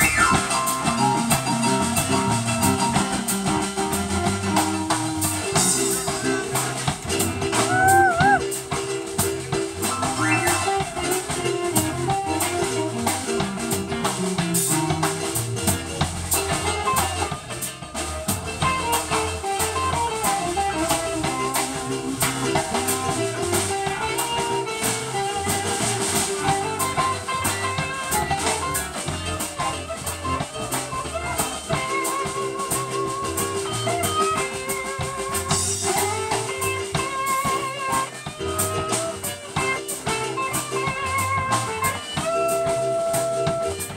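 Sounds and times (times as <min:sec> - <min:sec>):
drum kit: 0:00.0 - 0:43.9
electric guitar: 0:00.0 - 0:43.9
keyboard: 0:00.0 - 0:43.9.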